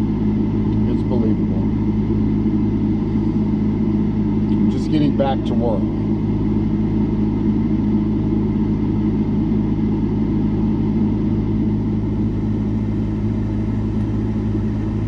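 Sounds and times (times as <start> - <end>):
motor humming: 0.0 - 9.0, 9.8 - 15.0.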